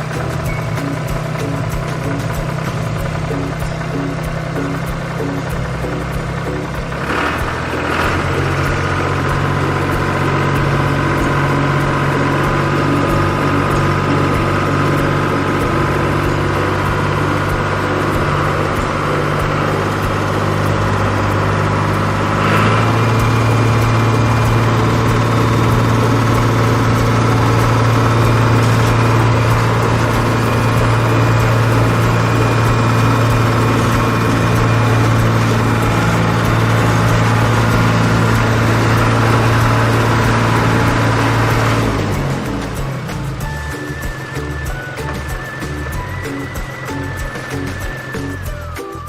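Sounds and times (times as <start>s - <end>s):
digger engine running: 0.0s - 49.0s.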